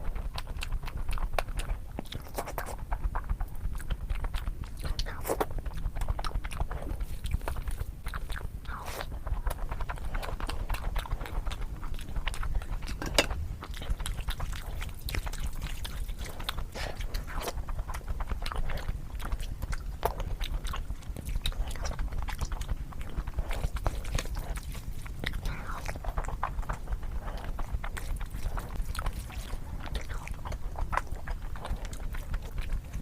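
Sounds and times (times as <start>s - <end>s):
chewing and biting: 0.0s - 33.0s
steady low hum: 0.0s - 33.0s.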